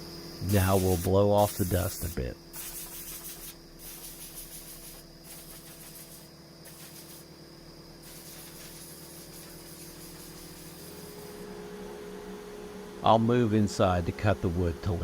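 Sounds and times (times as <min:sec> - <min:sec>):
air blower hissing: 0:00.0 - 0:15.0
steady hum: 0:00.0 - 0:15.0.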